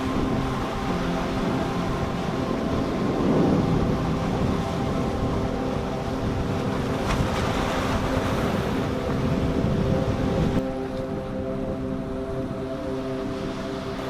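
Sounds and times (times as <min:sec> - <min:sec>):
motorboat engine humming: 0:00.0 - 0:14.0
rushing water: 0:00.0 - 0:14.0
wind buffeting microphone: 0:00.0 - 0:14.0.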